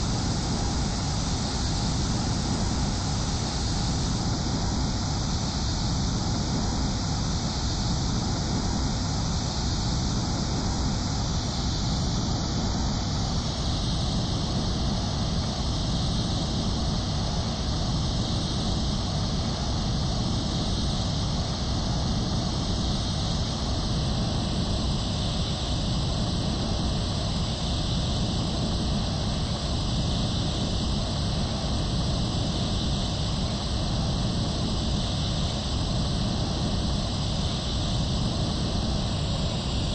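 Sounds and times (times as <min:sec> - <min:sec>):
jet airliner engine roar: 0:00.0 - 0:39.9.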